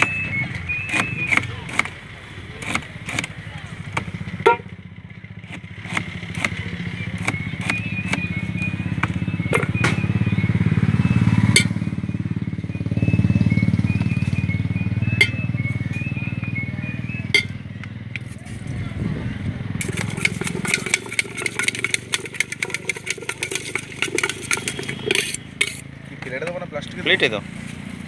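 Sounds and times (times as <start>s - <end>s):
motor engine running: 0.0s - 28.0s.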